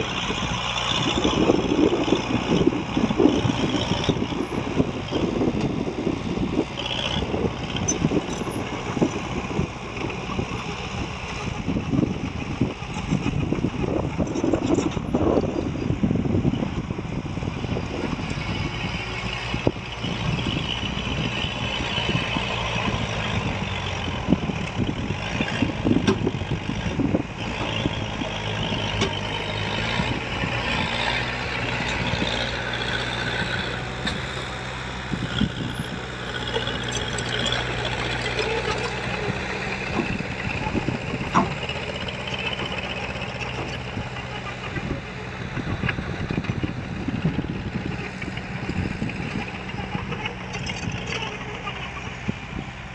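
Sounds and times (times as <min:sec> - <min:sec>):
diesel construction machinery running: 0:00.0 - 0:52.9.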